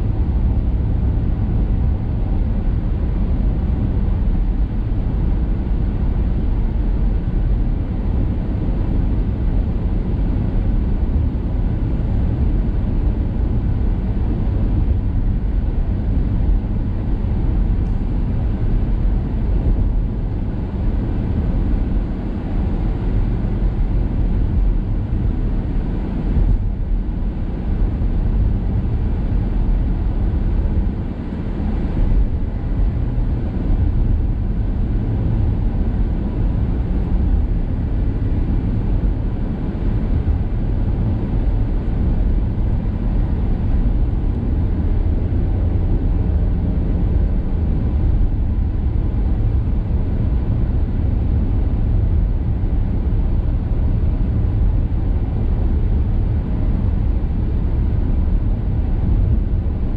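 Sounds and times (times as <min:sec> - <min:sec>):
car road rumble and tyre noise: 0:00.0 - 0:59.9.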